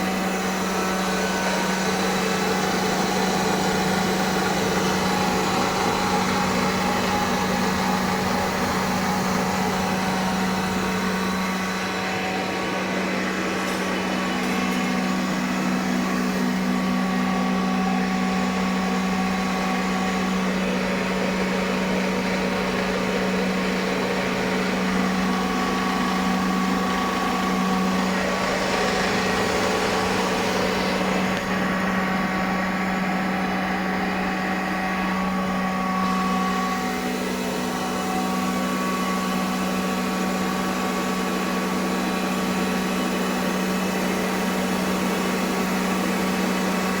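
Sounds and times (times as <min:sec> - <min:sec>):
air compressor humming: 0:00.0 - 0:47.0.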